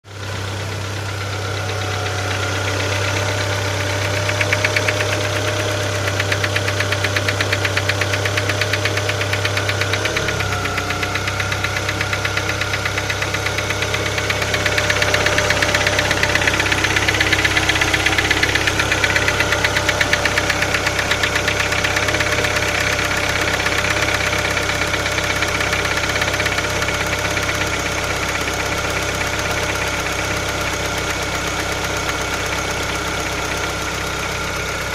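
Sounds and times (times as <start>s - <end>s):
petrol engine knocking: 0.0s - 34.9s.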